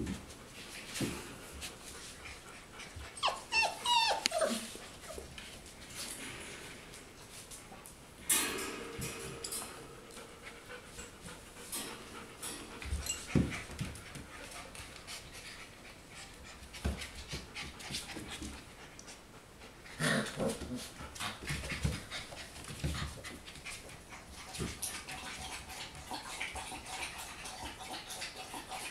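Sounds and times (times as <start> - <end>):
puppies scuffling: 0.0 - 19.2, 20.1 - 28.9
puppies panting: 0.2 - 5.8, 9.8 - 20.0, 20.6 - 28.9.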